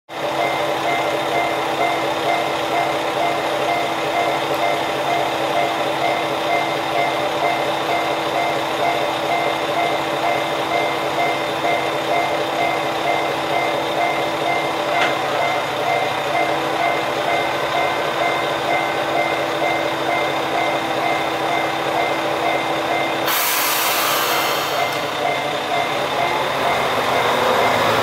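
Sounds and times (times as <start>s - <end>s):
diesel railcar engine idling: 0.1s - 28.0s
high electronic beep: 0.4s - 28.0s.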